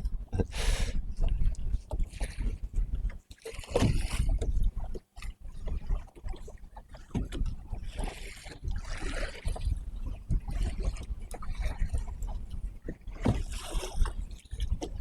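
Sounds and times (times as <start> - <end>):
water lapping against kayak hull: 0.0 - 15.0
wind rumble on microphone: 0.0 - 15.0.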